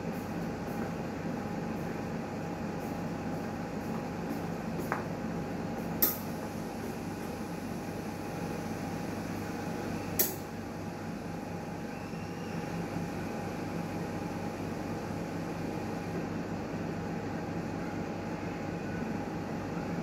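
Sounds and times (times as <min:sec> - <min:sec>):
autoclave mechanical hum: 0:00.0 - 0:20.0.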